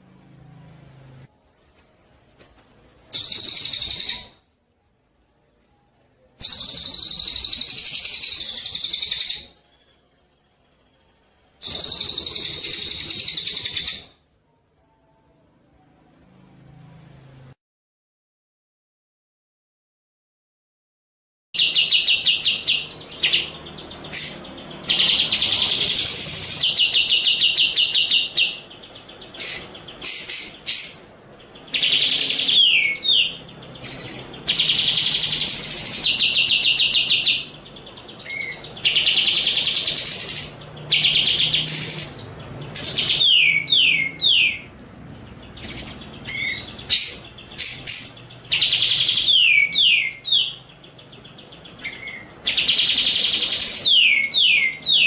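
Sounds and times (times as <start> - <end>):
songbird singing trills and whistles: 1.3 - 4.5, 5.2 - 14.2, 21.6 - 44.7, 45.5 - 55.0.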